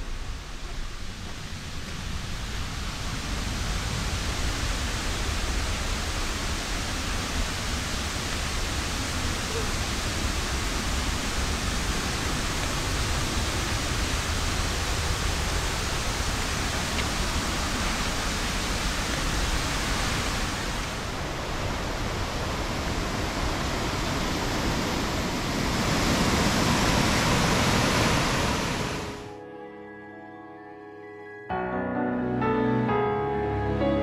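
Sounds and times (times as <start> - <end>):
waterfall rushing: 0.0 - 29.3.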